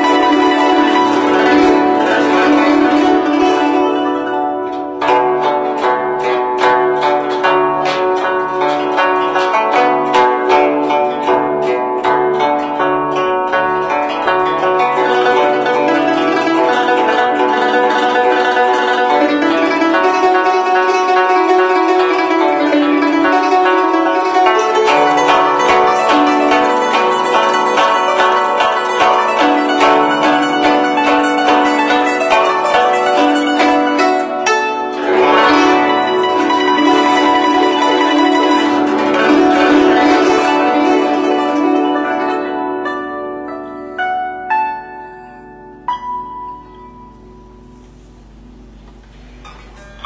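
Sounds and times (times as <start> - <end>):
guzheng plucked fast: 0.0 - 50.0.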